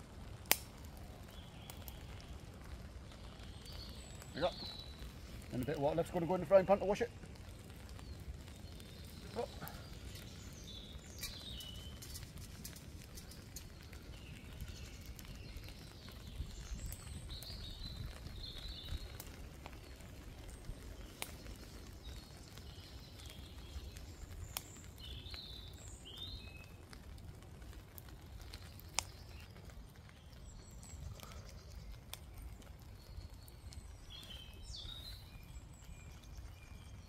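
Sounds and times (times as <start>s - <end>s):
birds chirping: 0.6s - 37.0s.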